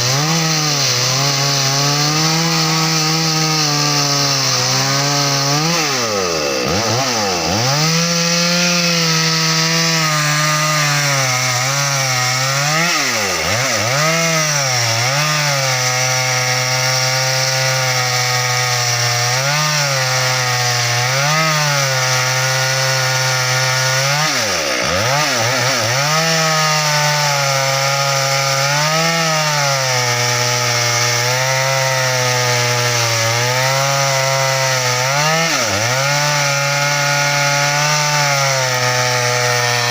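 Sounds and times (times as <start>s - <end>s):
chainsaw cutting branches: 0.0s - 39.9s.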